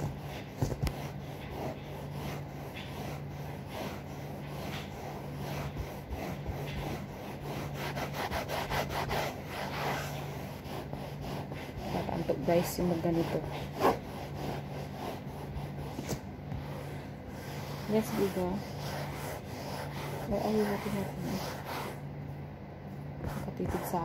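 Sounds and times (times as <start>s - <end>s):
cloth scrubbing upholstery: 0.0s - 22.1s, 23.2s - 24.0s.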